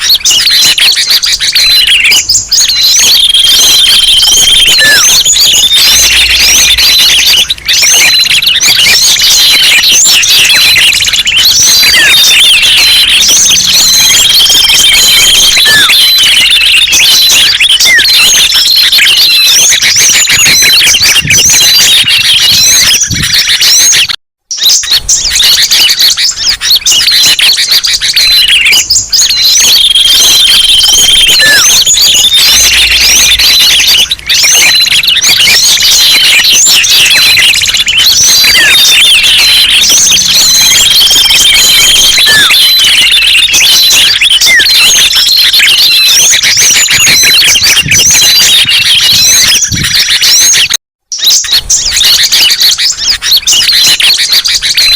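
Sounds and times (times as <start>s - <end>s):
songbirds chirping and twittering: 0.0s - 54.9s.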